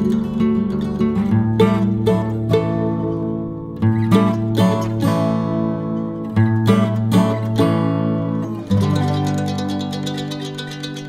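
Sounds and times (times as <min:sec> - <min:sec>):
acoustic guitar plucked and strummed: 0:00.0 - 0:11.0.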